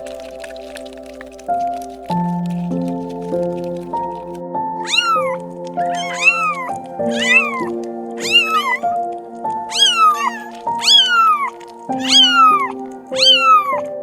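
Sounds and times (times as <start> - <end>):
animal calling: 0.0 - 14.0
background music with sustained chords: 0.0 - 14.0.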